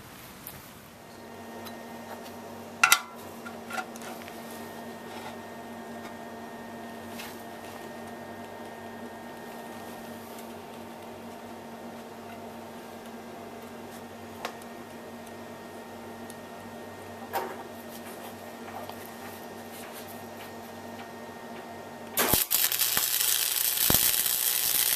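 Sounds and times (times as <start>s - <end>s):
machine hum: 1.0s - 24.9s.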